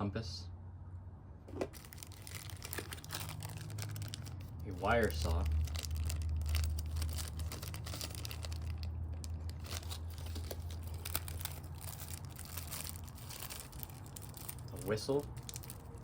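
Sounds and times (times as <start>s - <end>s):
packaging crinkling: 1.5s - 16.0s.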